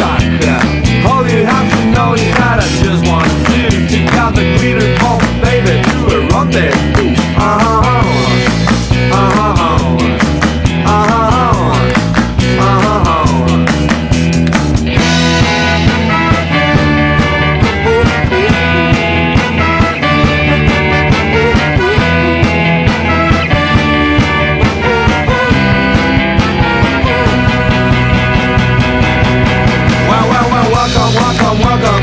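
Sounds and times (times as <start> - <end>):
bass guitar: 0.0 - 32.0
electric guitar: 0.0 - 32.0
steady drum beat: 0.0 - 32.0
upbeat rock music: 0.0 - 32.0.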